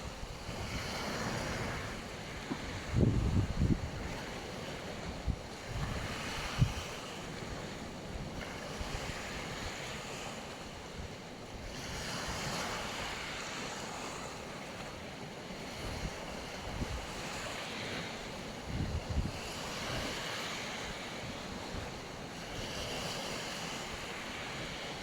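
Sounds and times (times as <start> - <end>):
wind rumbling on microphone: 0.0 - 14.3, 15.6 - 25.0
surf hissing on beach: 0.0 - 25.0.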